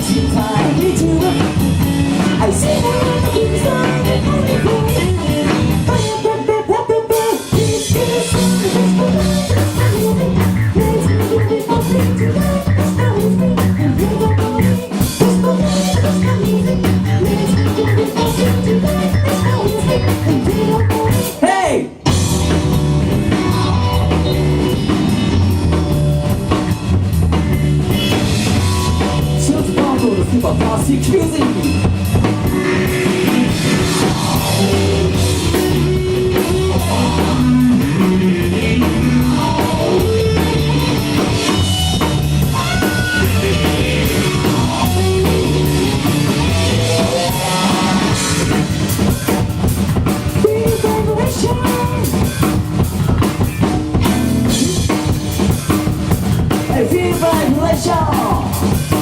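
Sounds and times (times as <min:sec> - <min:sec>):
drum kit beat: 0:00.0 - 0:06.4, 0:07.1 - 0:59.0
bass line: 0:00.0 - 0:59.0
electric guitar: 0:00.0 - 0:59.0.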